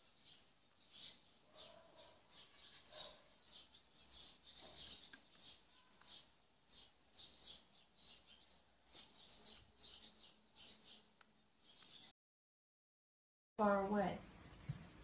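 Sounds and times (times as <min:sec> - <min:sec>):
small birds chirping: 0:00.0 - 0:12.2.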